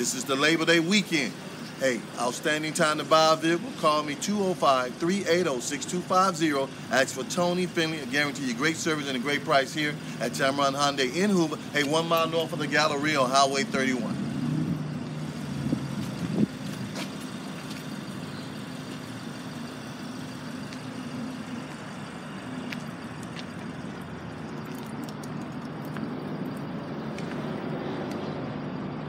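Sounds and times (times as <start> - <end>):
vehicle engine hum: 0.0 - 29.0.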